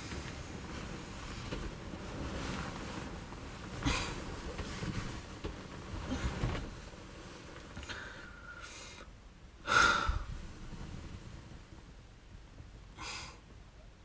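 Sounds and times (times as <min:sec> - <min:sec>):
bedding rustling: 0:00.0 - 0:08.9, 0:09.7 - 0:13.0.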